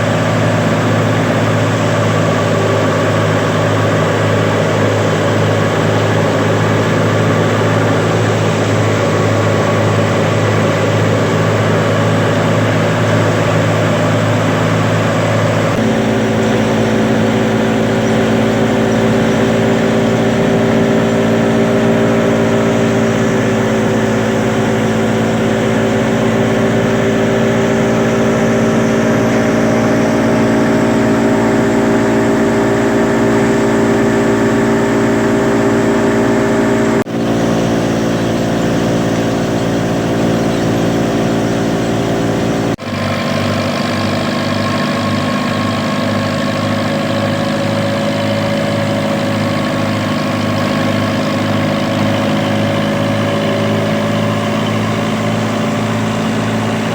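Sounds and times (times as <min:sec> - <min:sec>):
wheat thresher running: 0:00.0 - 0:56.9.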